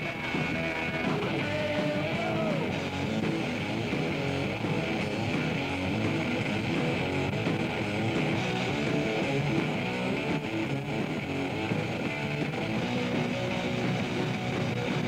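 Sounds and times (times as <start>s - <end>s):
rock music with strummed guitar: 0.0s - 15.0s.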